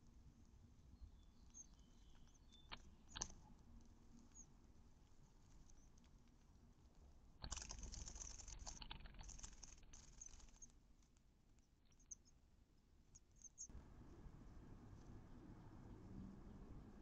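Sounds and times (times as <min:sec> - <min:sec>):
rustling and scratchy ticks: 0:00.0 - 0:13.7.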